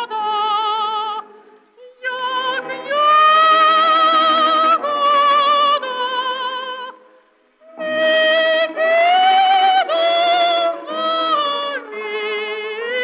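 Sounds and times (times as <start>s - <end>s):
woman singing operatically: 0.0s - 7.0s, 7.7s - 13.0s.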